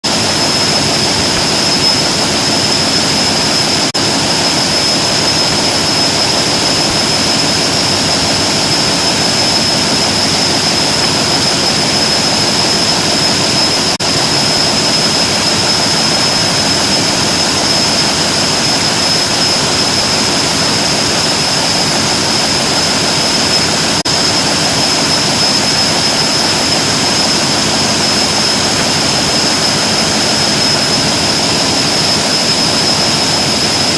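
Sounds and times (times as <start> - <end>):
electric drill motor whirring: 0.6 - 33.9.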